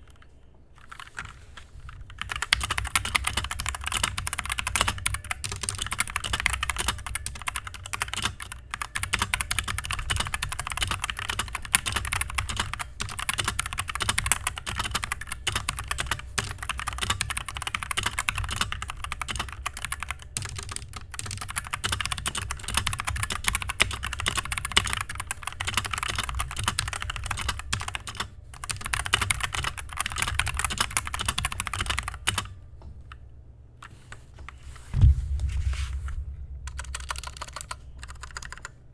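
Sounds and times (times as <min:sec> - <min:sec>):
fast mechanical keyboard typing: 0:00.8 - 0:32.5, 0:36.7 - 0:38.8.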